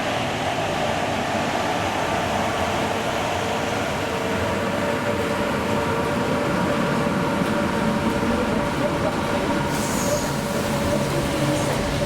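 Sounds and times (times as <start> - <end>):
train running past: 0.0 - 12.0.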